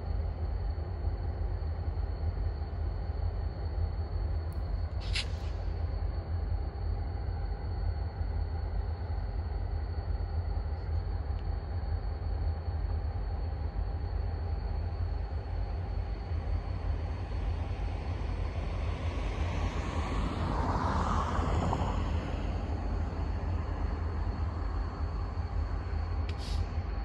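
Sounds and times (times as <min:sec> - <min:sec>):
freight train diesel rumble: 0:00.0 - 0:27.0.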